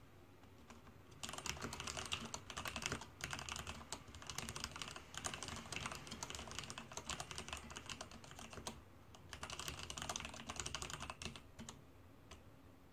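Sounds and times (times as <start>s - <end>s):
mechanical keyboard typing: 0.6s - 11.8s.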